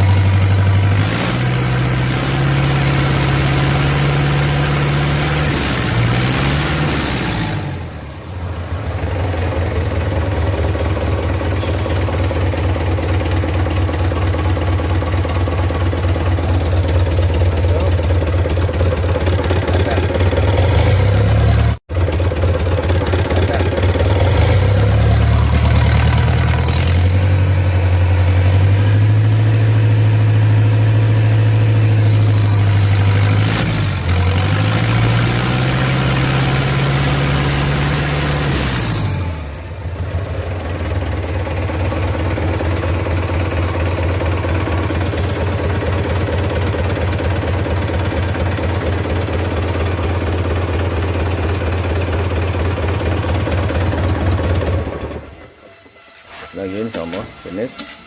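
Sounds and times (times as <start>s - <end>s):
diesel engine revving: 0.0s - 55.7s.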